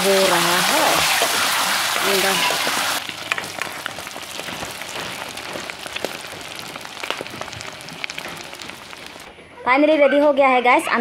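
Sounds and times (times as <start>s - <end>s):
eggs sizzling in hot oil: 0.0s - 9.3s.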